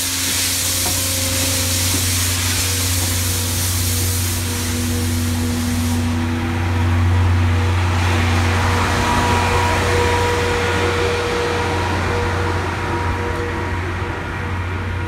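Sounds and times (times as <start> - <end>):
train coaches rolling past: 0.0 - 15.0.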